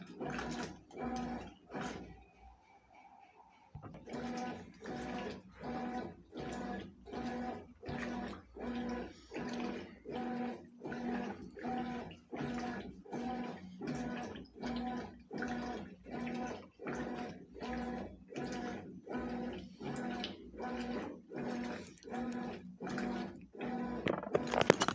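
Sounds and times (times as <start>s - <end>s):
water and clothes sloshing: 0.0s - 2.4s, 3.6s - 24.9s
washing machine motor humming: 0.0s - 24.9s.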